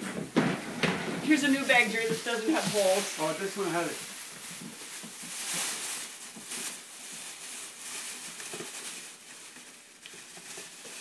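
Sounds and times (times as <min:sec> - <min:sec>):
plastic bag rustling: 0:00.0 - 0:11.0
shuffling and scraping: 0:00.0 - 0:11.0.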